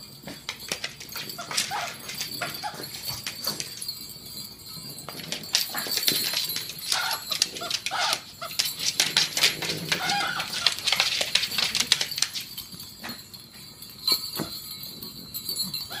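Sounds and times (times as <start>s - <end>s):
paws scrabbling on hardwood floor: 0.1s - 16.0s.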